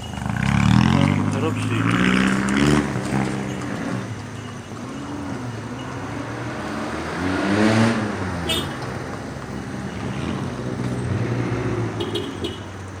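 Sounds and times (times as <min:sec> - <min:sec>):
vehicle passing close by: 0:00.0 - 0:12.8
traffic noise: 0:00.0 - 0:13.0.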